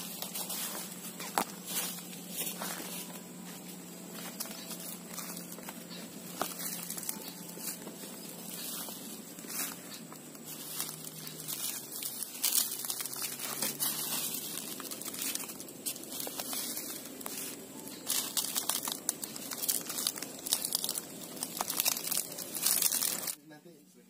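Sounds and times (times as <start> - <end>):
rustling and crackling: 0.0 - 23.4
steady hiss: 0.0 - 24.0.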